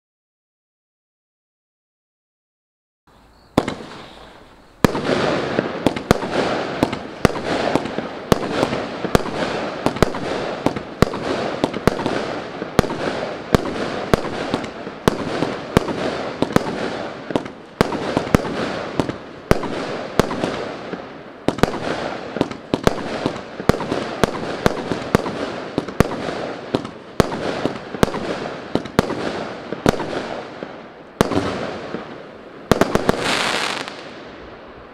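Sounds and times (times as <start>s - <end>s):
firework hiss: 3.2s - 34.9s
firework bangs: 3.5s - 34.6s.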